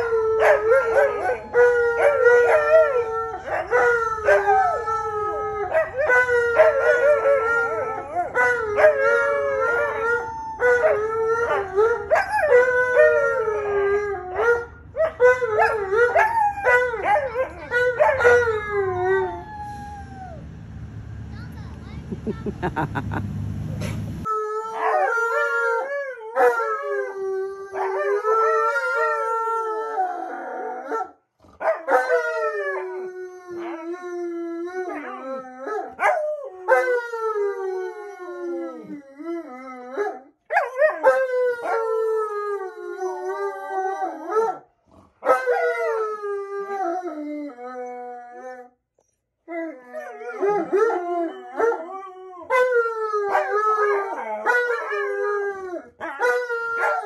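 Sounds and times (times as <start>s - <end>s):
dogs howling: 0.0s - 20.4s, 24.2s - 48.8s, 49.5s - 57.0s.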